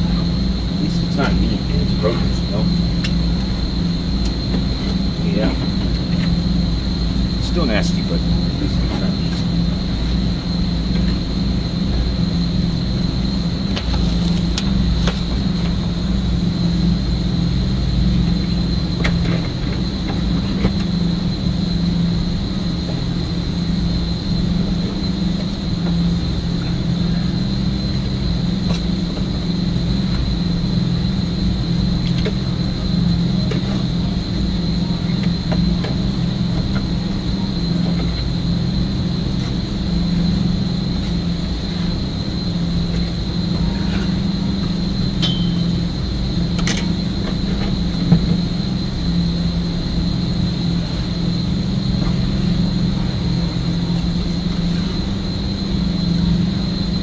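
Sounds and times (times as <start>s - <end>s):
machine hum with high whine: 0.0s - 57.0s.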